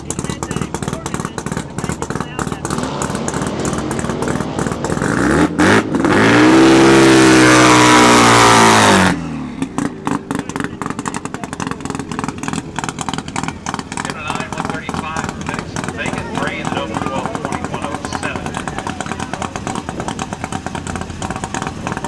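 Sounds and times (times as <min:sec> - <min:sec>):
car engine choppy idle: 0:00.0 - 0:06.0, 0:08.8 - 0:22.0
engine revving hard: 0:00.0 - 0:22.0.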